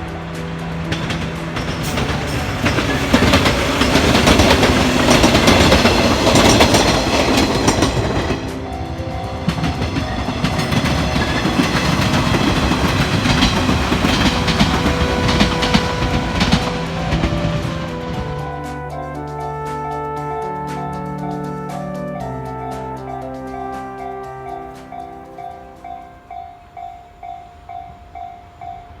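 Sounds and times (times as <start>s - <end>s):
background music: 0.0s - 27.8s
electric train passing: 0.0s - 29.0s
train wheels clacking: 0.0s - 29.0s.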